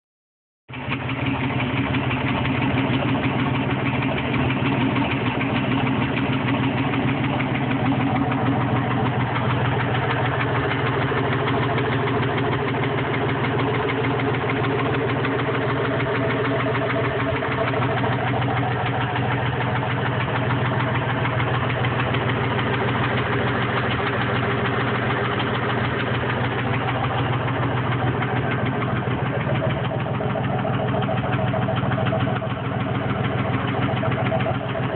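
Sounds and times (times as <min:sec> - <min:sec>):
engine idling with ticking knock: 0:00.7 - 0:34.9.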